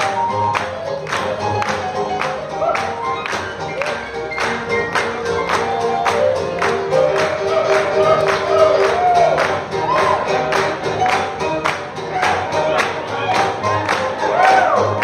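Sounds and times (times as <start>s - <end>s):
live swing band: 0.0s - 15.0s.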